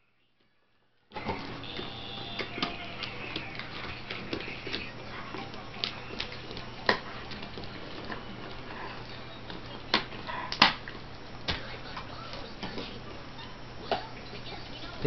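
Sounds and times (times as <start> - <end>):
dog gnawing a chew stick: 1.2 - 15.0.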